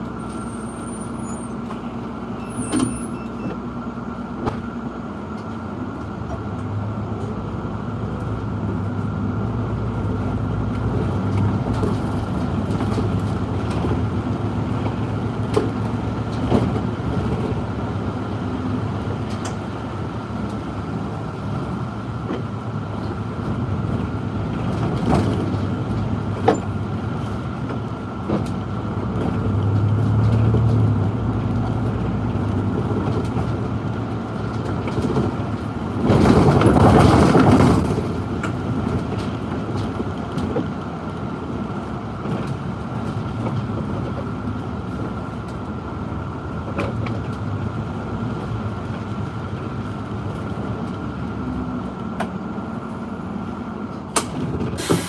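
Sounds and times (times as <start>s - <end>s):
bus engine and tyre noise: 0.0s - 55.0s.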